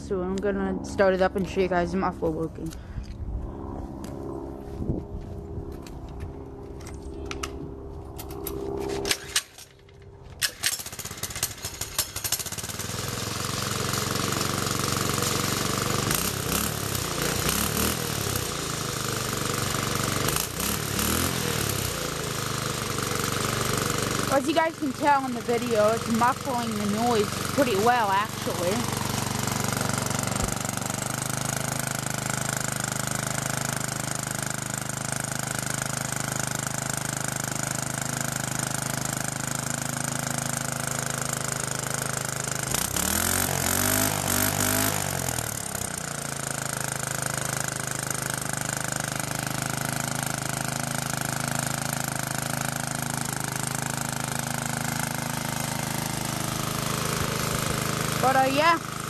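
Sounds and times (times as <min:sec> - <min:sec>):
small engine idling and revving: 0:00.0 - 0:59.0.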